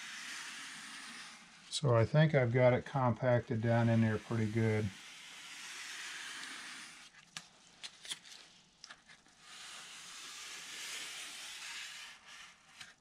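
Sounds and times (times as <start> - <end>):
wood scraping on carbon fiber: 0.0 - 7.2, 9.2 - 13.0.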